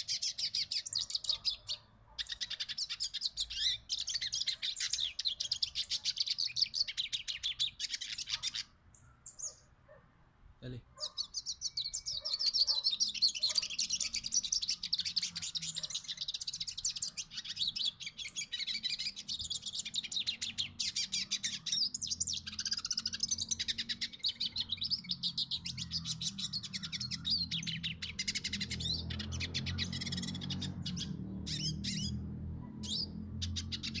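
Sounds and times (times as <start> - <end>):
bird twittering song: 0.0 - 10.0, 10.6 - 34.0.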